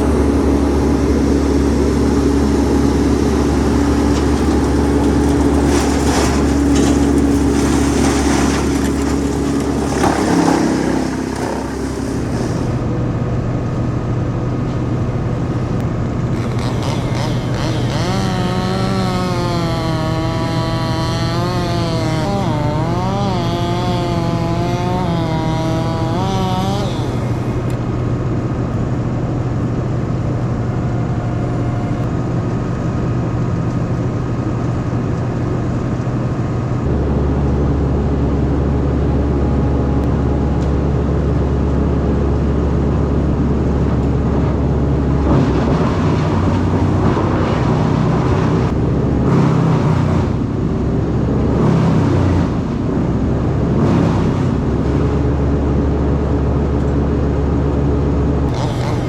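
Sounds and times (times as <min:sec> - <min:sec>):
engines droning: 0:00.0 - 0:59.0.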